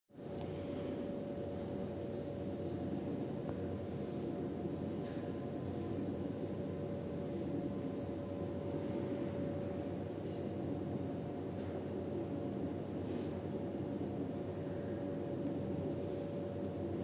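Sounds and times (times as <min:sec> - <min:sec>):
faint high whine: 0:00.2 - 0:17.0
low electrical hum and hiss: 0:00.2 - 0:17.0.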